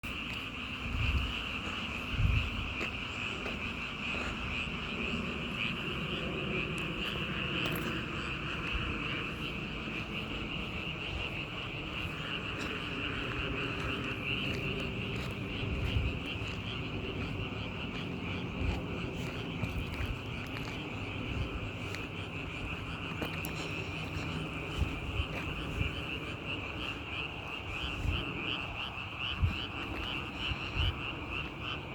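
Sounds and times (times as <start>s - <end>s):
chorus of frogs calling: 0.0s - 31.9s.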